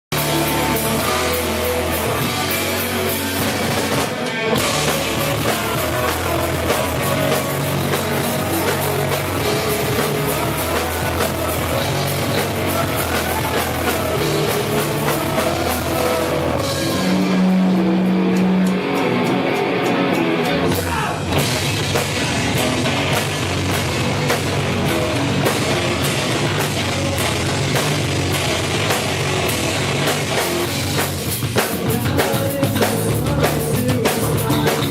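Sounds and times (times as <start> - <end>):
rock band playing heavy music: 0.0 - 34.9.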